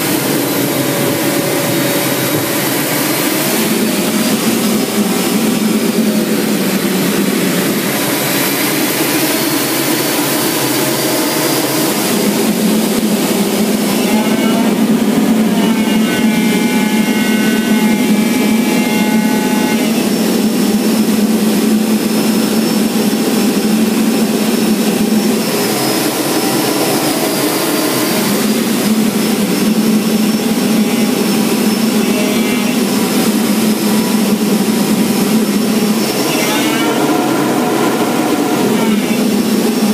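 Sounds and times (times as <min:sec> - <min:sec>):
jet engine drone with high whine: 0:00.0 - 0:39.9.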